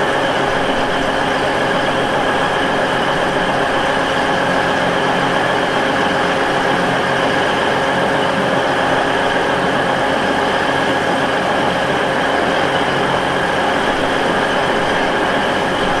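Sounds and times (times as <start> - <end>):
diesel train engine running: 0.0 - 16.0.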